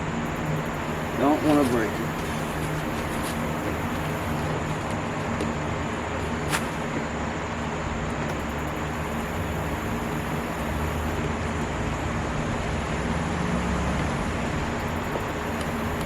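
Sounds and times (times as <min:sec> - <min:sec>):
constant hiss: 0:00.0 - 0:16.0
machine hum: 0:00.0 - 0:16.0.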